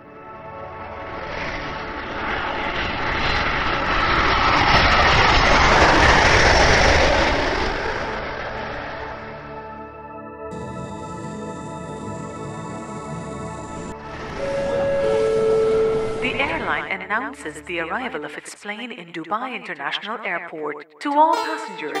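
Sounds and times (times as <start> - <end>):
jet airliner flying overhead: 0.0 - 18.4.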